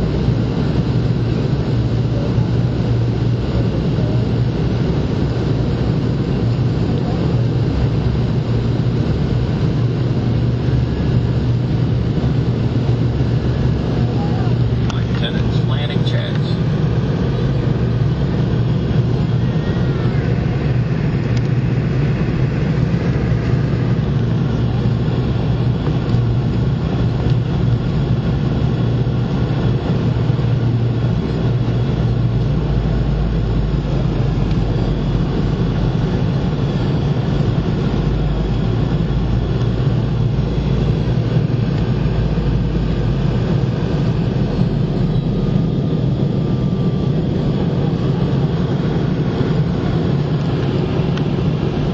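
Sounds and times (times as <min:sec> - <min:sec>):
airliner cabin engine drone: 0:00.0 - 0:51.9.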